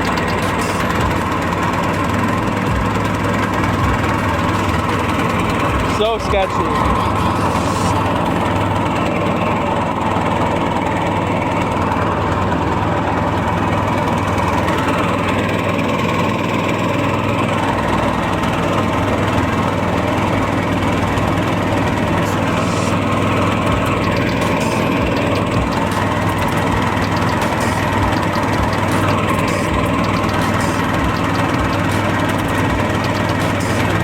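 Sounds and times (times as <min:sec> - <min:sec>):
boat motor running: 0:00.0 - 0:34.0.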